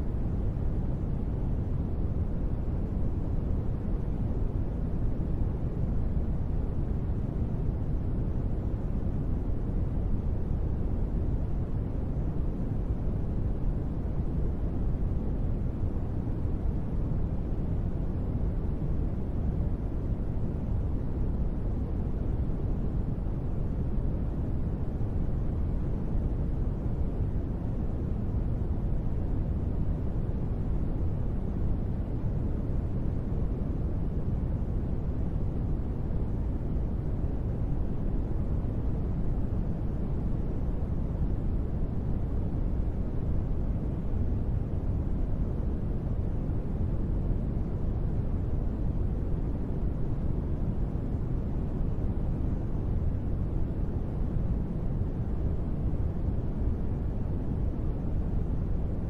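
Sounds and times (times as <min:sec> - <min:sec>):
deep white noise: 0:00.0 - 0:59.0.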